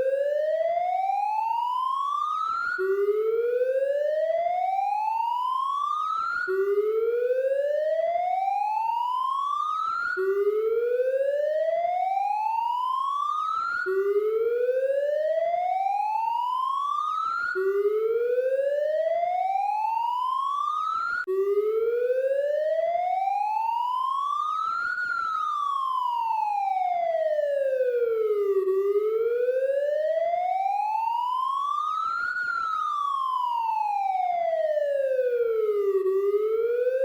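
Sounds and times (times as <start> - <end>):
police siren wailing: 0.0 - 37.0.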